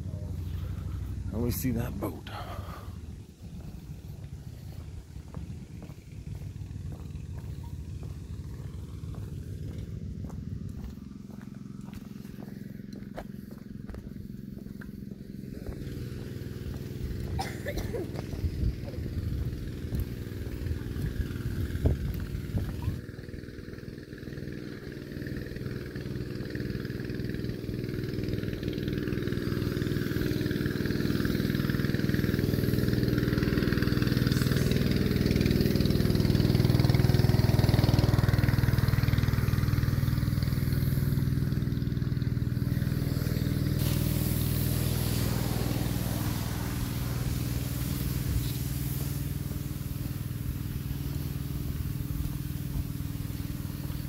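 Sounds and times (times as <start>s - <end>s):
motor engine running: 0.0s - 54.0s.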